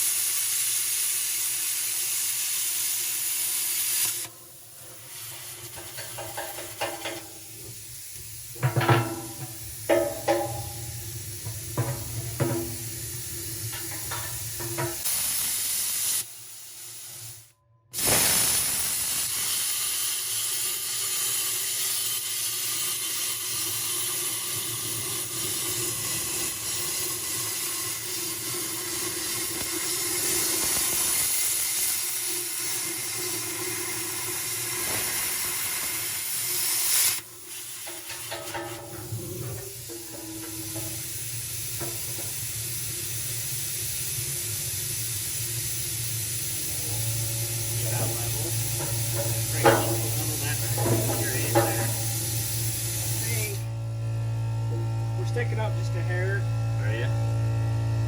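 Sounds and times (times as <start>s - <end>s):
plasma cutter hissing: 0.0s - 53.8s.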